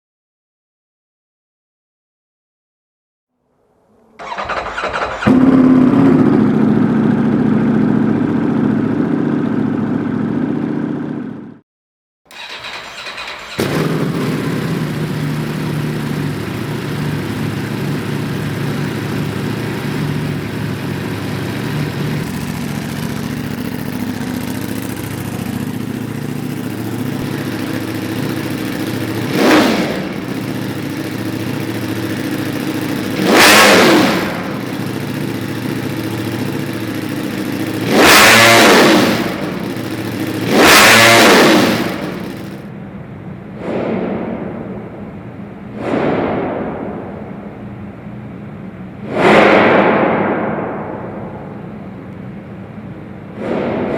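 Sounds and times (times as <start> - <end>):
motorcycle engine idling and revving: 4.2 - 11.6, 12.3 - 53.9.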